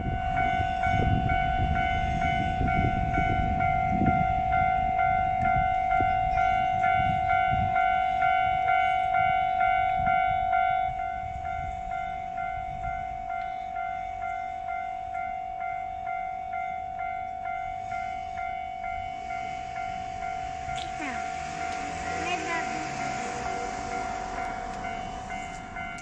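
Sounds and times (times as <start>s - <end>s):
level crossing warning bell: 0.0s - 26.0s
passing train rumble: 0.0s - 26.0s.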